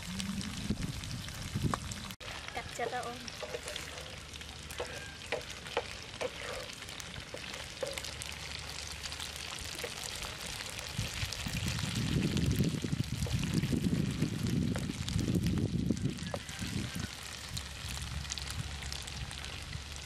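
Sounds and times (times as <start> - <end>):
tofu sizzling in hot oil: 0.6 - 20.0.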